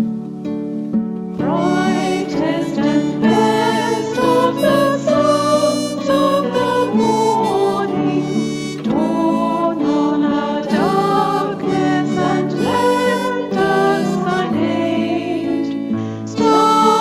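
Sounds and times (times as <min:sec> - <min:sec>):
guitar: 0:00.0 - 0:17.0
piano: 0:00.0 - 0:17.0
string-pad keyboard: 0:00.0 - 0:17.0
women singing a hymn: 0:01.4 - 0:17.0.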